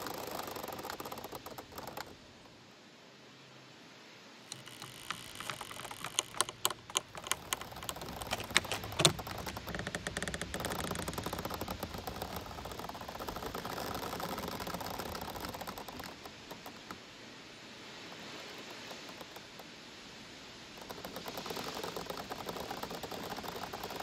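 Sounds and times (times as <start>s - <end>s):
woody clicks and knocks: 0.0s - 2.5s, 4.5s - 17.0s, 18.2s - 19.8s, 20.7s - 24.0s
bamboo creaking in wind: 0.0s - 3.0s, 3.8s - 24.0s.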